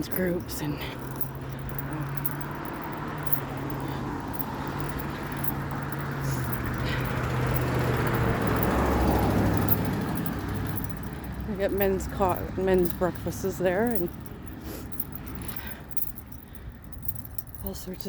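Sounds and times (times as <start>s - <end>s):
car passing on road: 0.0s - 17.6s.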